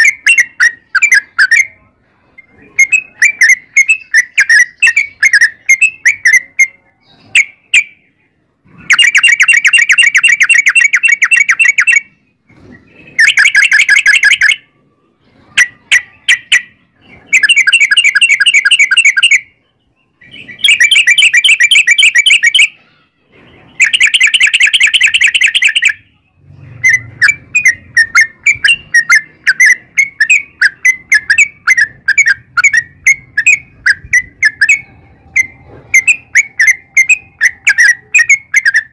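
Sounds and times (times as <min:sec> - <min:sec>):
bulbul singing with fast trills: 0:00.0 - 0:38.9.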